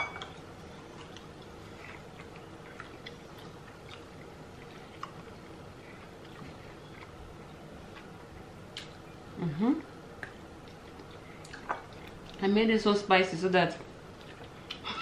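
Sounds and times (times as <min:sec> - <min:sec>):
soft chewing: 0:00.3 - 0:12.6, 0:13.7 - 0:15.0.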